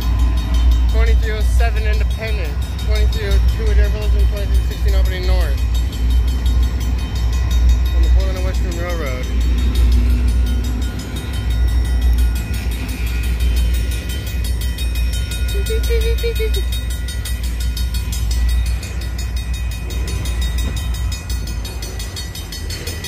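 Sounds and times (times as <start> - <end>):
diesel locomotive passing: 0.0 - 23.0
freight train wheels rumbling: 0.0 - 23.0.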